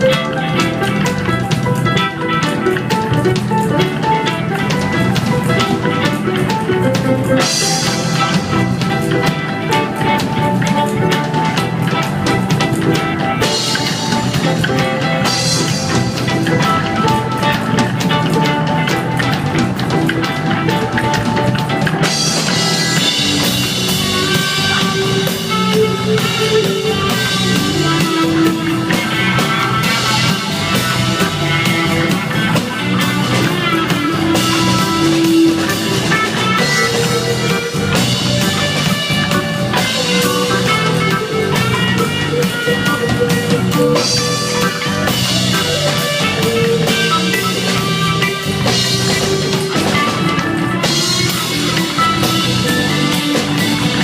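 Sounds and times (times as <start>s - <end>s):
reggae dub band playing: 0.0s - 54.0s.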